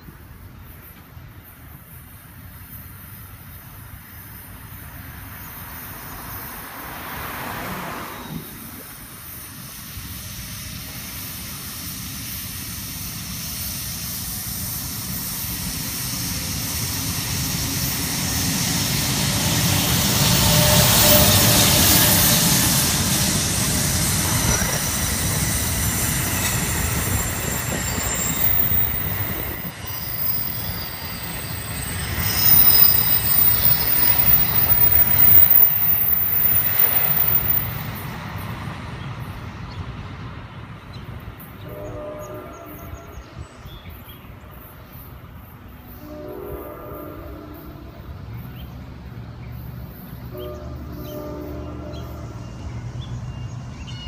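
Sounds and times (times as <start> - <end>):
train passing by: 0.0 - 54.0.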